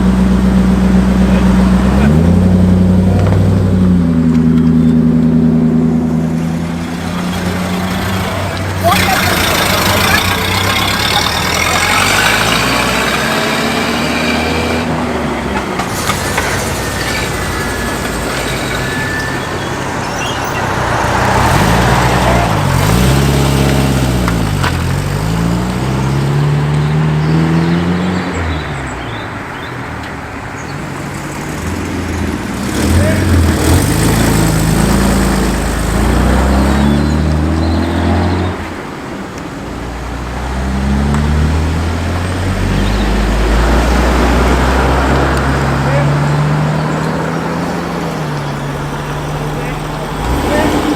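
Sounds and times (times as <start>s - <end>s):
car engines revving away: 0.0s - 50.9s
road noise: 0.0s - 50.9s.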